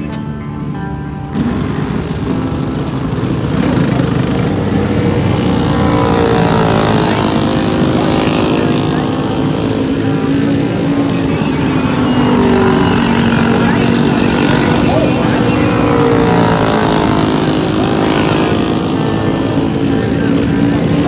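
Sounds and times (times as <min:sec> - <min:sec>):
racing kart engine: 0:00.0 - 0:21.0.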